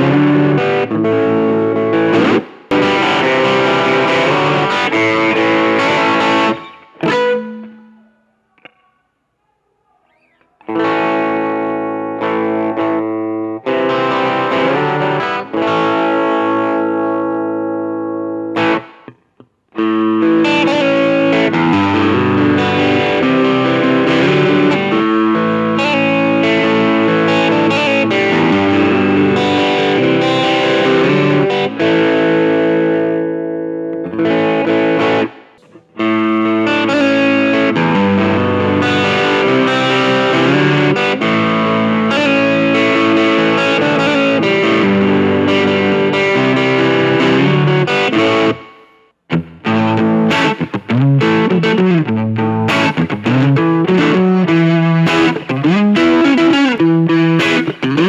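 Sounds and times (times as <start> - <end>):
distorted electric guitar chords: 0.0 - 8.2, 10.6 - 58.0
electric guitar lead with bends: 0.0 - 9.0, 10.1 - 58.0.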